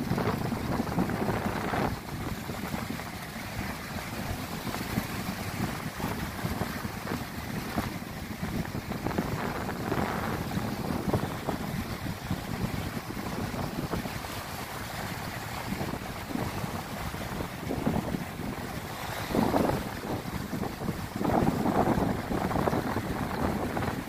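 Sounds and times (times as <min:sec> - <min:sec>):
surf breaking against boulders: 0:00.0 - 0:24.0
wind buffeting microphone: 0:00.0 - 0:24.0.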